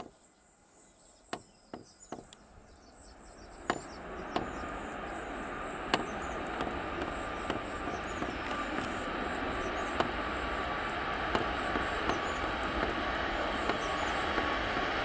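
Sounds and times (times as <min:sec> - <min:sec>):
jet engines rushing with whine: 0:01.8 - 0:15.0.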